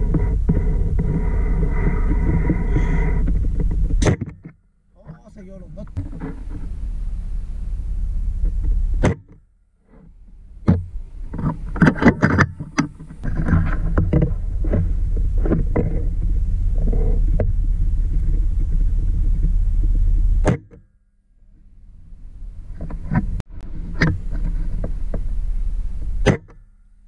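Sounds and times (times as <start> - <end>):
steady low rumble: 0.0 - 20.6, 21.3 - 27.0.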